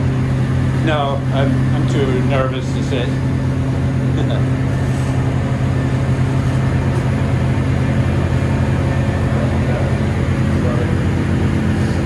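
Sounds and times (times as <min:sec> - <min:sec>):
lopey engine idling: 0:00.0 - 0:12.0.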